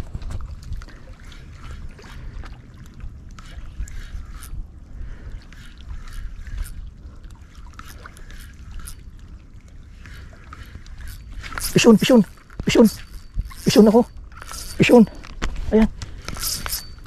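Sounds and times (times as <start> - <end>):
wind rumble on microphone: 0.0 - 14.4
water lapping at shore: 0.0 - 17.0.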